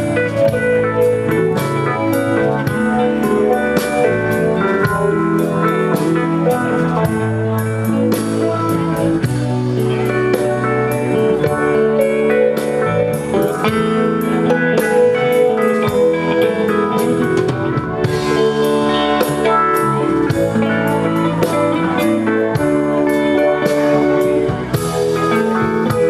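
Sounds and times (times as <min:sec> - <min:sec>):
electric guitar: 0:00.0 - 0:26.0
live country-rock band: 0:00.0 - 0:26.0
steady cymbal beat: 0:00.0 - 0:26.0.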